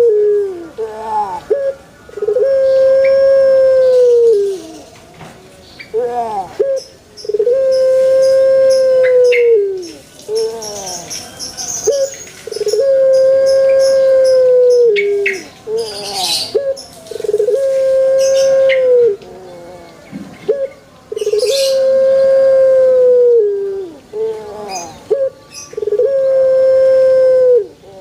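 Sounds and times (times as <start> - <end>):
dove cooing: 0.0 - 5.0, 5.9 - 28.0.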